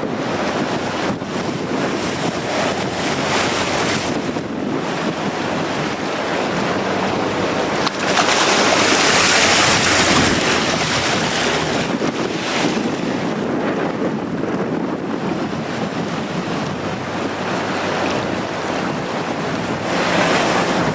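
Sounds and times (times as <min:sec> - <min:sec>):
surf rushing: 0:00.0 - 0:20.9
wind buffeting microphone: 0:00.0 - 0:20.9.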